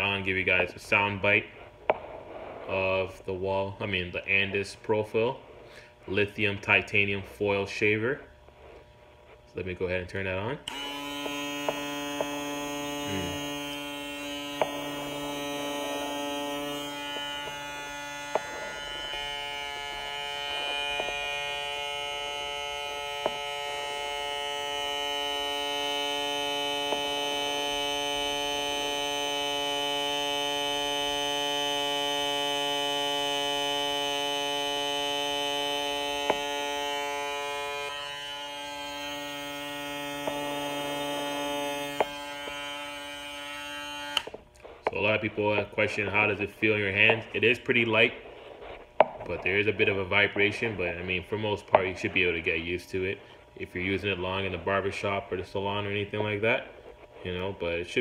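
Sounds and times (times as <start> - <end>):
electric shaver buzzing: 3.8 - 57.8.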